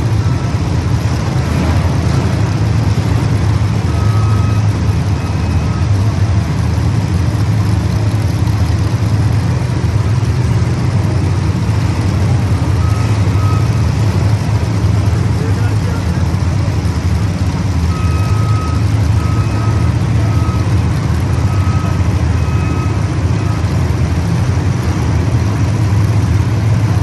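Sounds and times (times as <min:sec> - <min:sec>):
race engines droning: 0:00.0 - 0:27.0.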